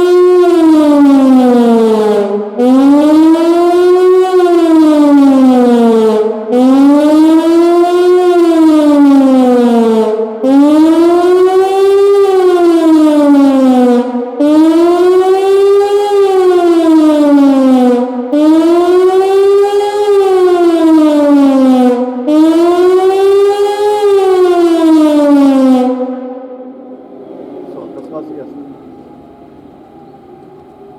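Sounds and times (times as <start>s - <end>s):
siren wailing: 0.0s - 30.9s.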